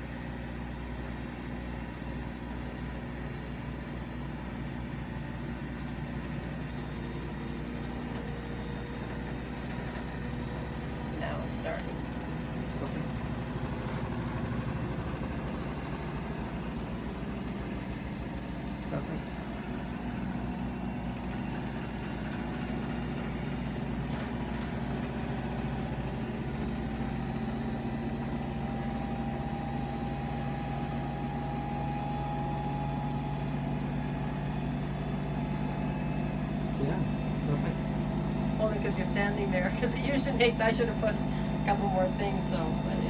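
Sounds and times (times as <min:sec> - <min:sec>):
washing machine spinning: 0:00.0 - 0:43.0.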